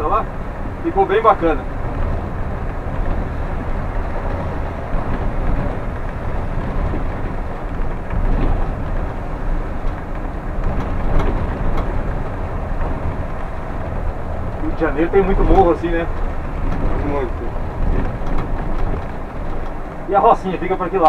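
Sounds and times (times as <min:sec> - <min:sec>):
coach engine and road rumble: 0:00.0 - 0:21.0.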